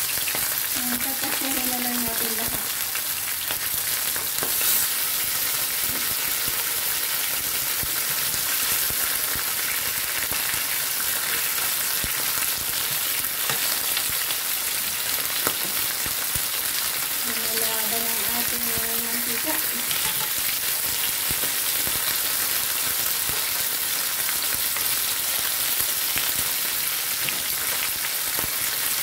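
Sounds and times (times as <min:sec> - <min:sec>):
fish frying in hot oil: 0:00.0 - 0:29.0.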